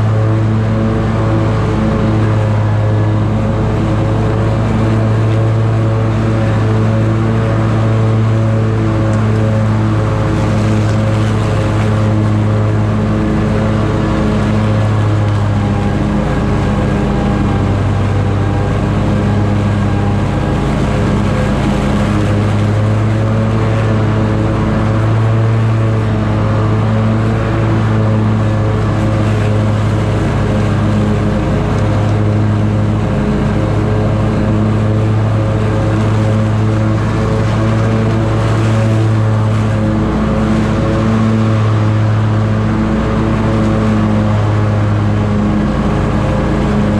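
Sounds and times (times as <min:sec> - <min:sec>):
lawn mower cutting grass: 0:00.0 - 0:46.9.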